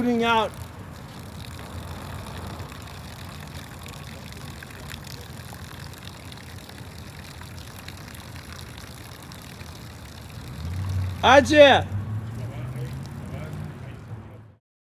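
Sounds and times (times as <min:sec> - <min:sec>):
water running: 0:00.0 - 0:14.1.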